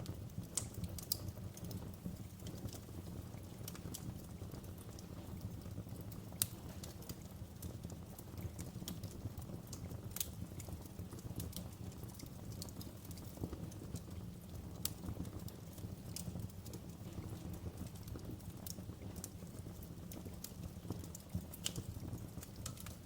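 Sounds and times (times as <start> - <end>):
fire crackling with pops: 0.0 - 23.0.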